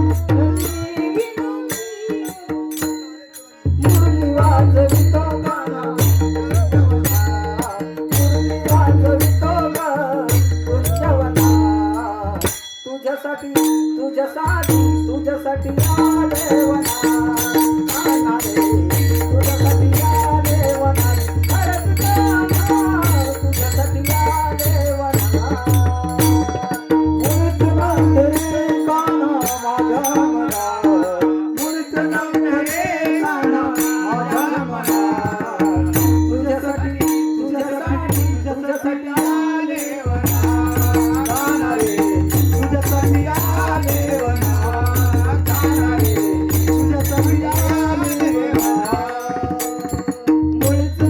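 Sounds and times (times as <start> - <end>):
percussion beat: 0.0 - 51.0.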